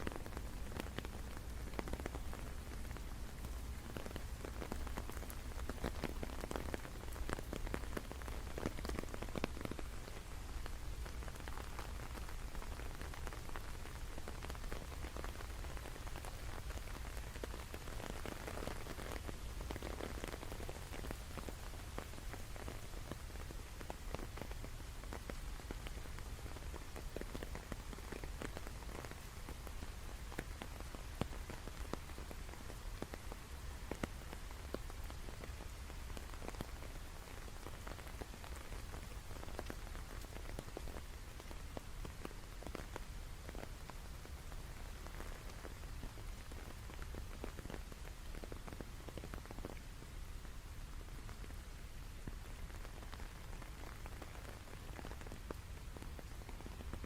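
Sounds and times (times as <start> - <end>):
rain falling: 0.0 - 57.0
raindrops ticking: 0.0 - 57.0.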